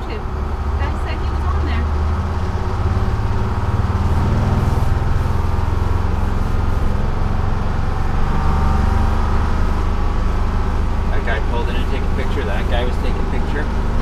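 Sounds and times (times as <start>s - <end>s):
diesel bus engine running: 0.0s - 14.0s.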